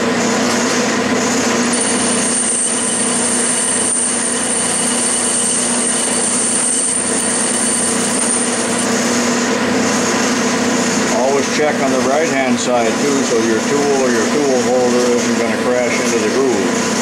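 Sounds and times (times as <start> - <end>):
metal lathe cutting: 0.0 - 17.0
high thin whine: 1.3 - 17.0.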